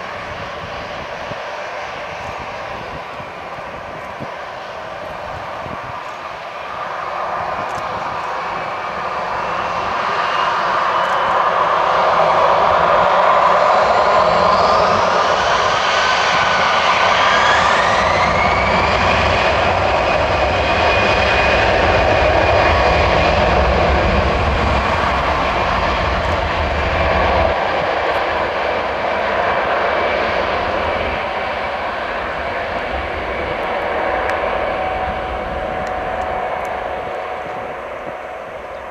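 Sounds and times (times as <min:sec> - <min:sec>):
jet engines spooling up: 0:00.0 - 0:38.9.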